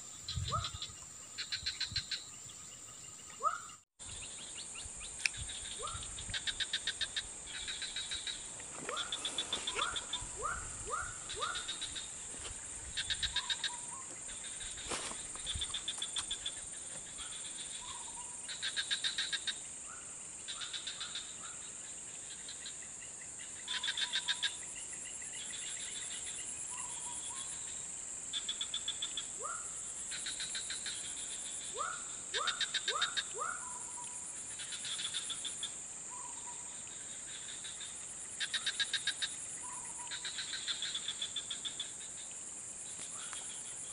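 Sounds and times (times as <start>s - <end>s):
frogs pulsed trills: 0.0s - 12.3s, 12.9s - 43.9s.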